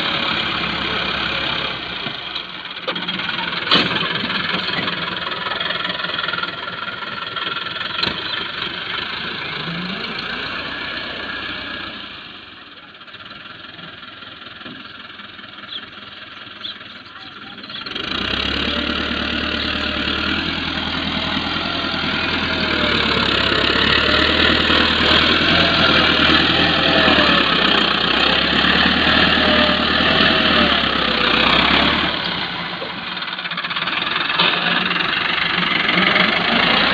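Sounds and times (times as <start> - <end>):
tractor diesel engine under load: 0.0 - 36.9.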